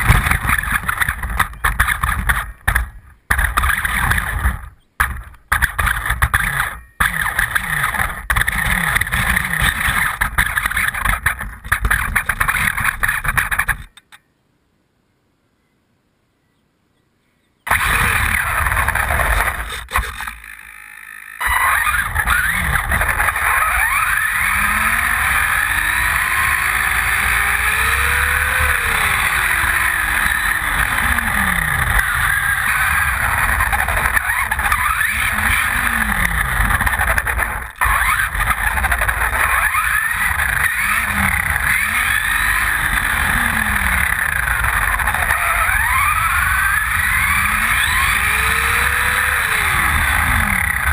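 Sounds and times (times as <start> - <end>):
electric motor and gears whining: 0.0 - 13.8, 17.7 - 50.9
tyre and road noise: 0.0 - 14.2, 17.7 - 50.9.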